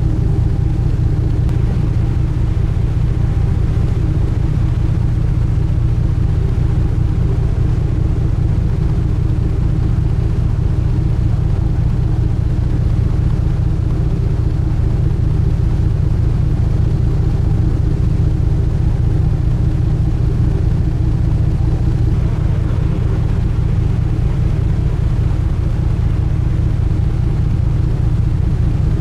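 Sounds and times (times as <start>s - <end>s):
boat engines rumbling: 0.0s - 29.0s
steady engine hum: 0.0s - 29.0s.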